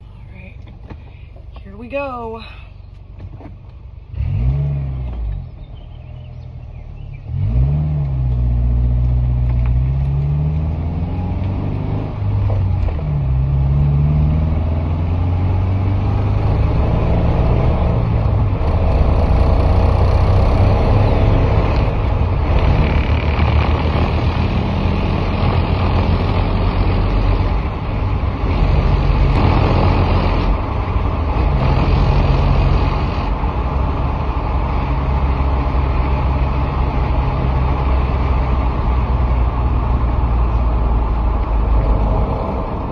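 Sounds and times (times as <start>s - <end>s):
road noise: 0.0s - 42.9s
car engine accelerating: 2.9s - 42.9s.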